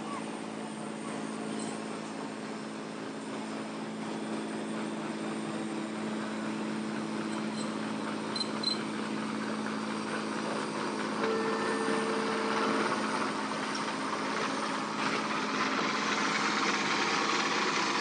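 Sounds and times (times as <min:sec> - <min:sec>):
diesel boat engine droning: 0:00.0 - 0:18.0.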